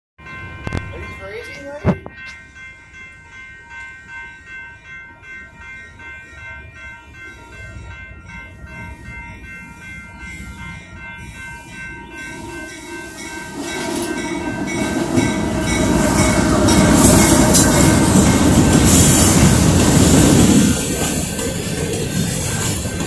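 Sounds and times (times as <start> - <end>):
crossing warning bells ringing: 0.2 - 23.0
freight train rumbling past: 0.2 - 23.0.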